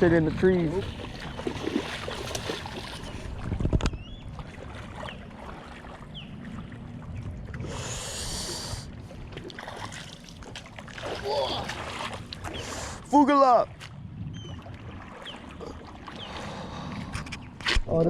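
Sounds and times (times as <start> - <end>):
water and wind against kayak: 0.0 - 18.0.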